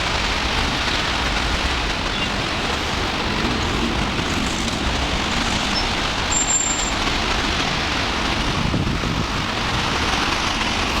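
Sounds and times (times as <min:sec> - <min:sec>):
traffic noise at a roundabout: 0:00.0 - 0:11.0.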